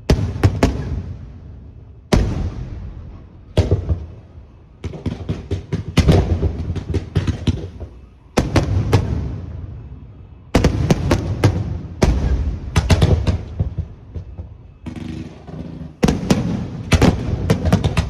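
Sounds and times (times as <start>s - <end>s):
fireworks bursting with echo: 0.0s - 18.0s.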